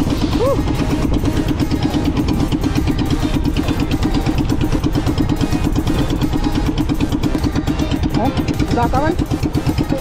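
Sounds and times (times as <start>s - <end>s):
boat engine pulsing: 0.0s - 10.0s.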